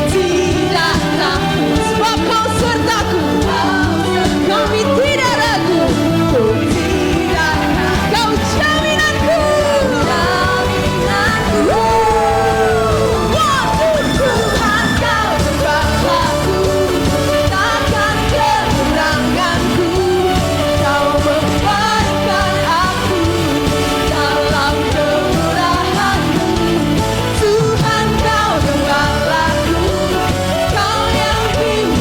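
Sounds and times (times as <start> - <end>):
voices singing: 0.0 - 32.0
worship band playing: 0.0 - 32.0.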